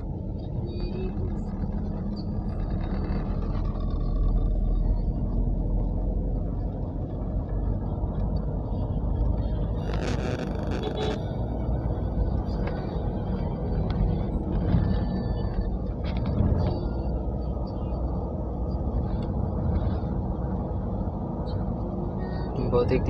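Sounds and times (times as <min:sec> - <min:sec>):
road and engine rumble in car: 0:00.0 - 0:23.0.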